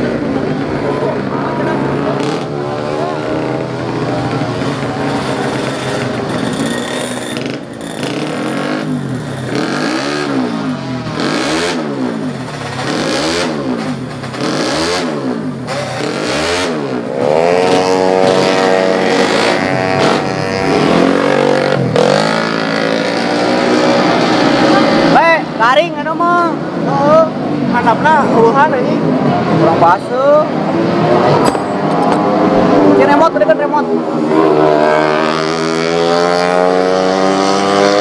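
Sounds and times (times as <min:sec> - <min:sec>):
scooter engine revving: 0:00.0 - 0:25.6, 0:30.5 - 0:38.0.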